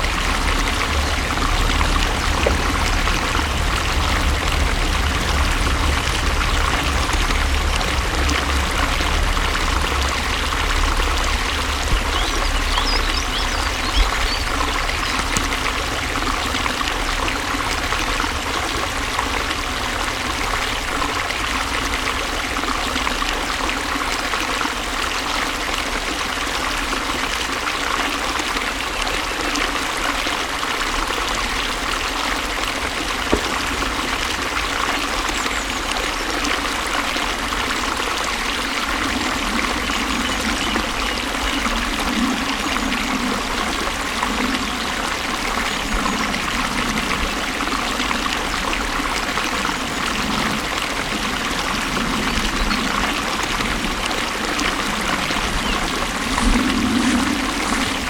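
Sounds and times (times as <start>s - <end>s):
deep rumble: 0.0s - 25.1s, 32.8s - 36.0s, 37.0s - 58.0s
water rushing and trickling: 0.0s - 58.0s.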